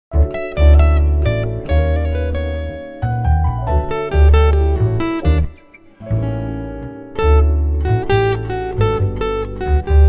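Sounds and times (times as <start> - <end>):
plucked notes: 0.1 - 10.0
deep bass line: 0.2 - 5.5, 6.1 - 10.0.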